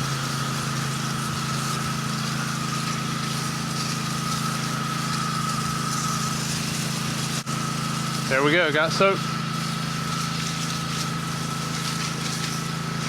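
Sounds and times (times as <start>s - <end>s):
high steady whine: 0.0s - 13.0s
pressure washer engine and pump drone: 0.0s - 13.0s
water spraying from wand: 0.0s - 13.0s.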